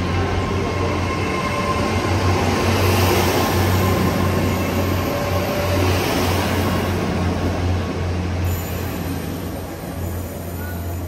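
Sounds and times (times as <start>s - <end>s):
train diesel engines droning: 0.0s - 11.0s.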